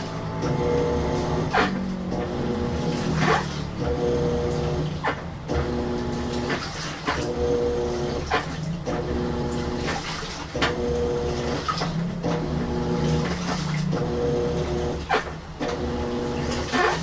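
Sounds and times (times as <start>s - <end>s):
washing machine motor humming: 0.0s - 17.0s
water sloshing and splashing: 0.0s - 17.0s.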